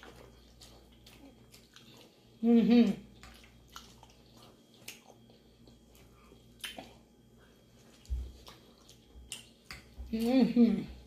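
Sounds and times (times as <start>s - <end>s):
wet chewing sounds: 0.0s - 11.0s.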